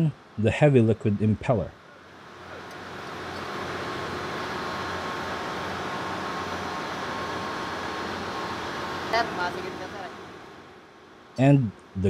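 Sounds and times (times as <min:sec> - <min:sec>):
engine room machinery hum: 0:00.0 - 0:12.0.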